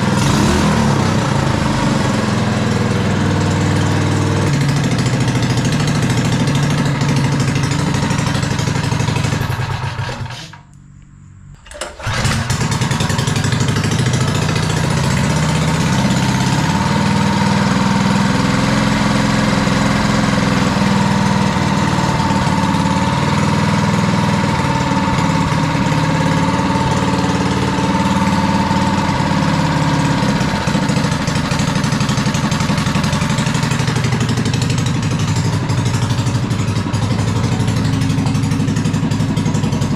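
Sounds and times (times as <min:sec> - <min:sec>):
go-kart engine running: 0:00.0 - 0:10.6, 0:11.6 - 0:39.9.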